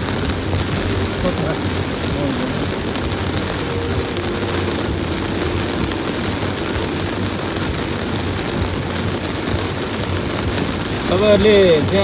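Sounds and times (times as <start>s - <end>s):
heavy rain hissing: 0.0s - 12.0s
vehicle rumble on road: 0.0s - 12.0s.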